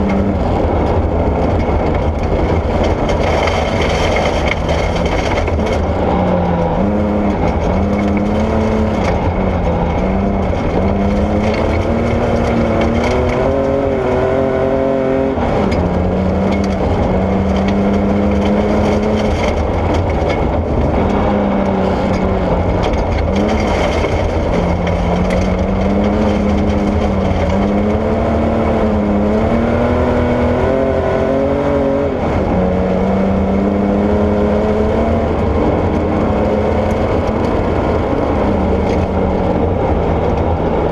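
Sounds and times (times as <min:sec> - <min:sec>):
car engine revving: 0:00.0 - 0:40.9
tyres on gravel rumble: 0:00.0 - 0:40.9.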